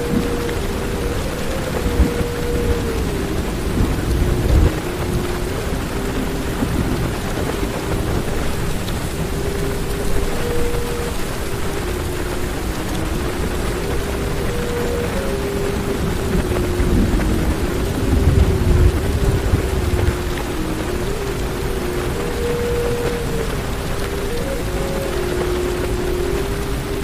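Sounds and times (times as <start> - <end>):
heavy rain on car roof: 0.0 - 27.0
thunder rumbling: 0.0 - 27.0.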